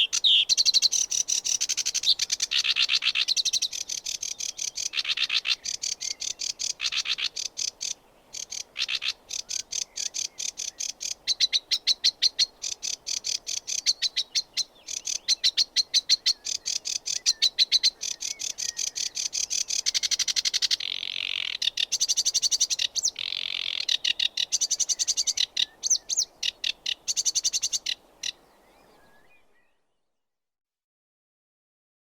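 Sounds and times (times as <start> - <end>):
warbler singing: 0.0 - 29.9.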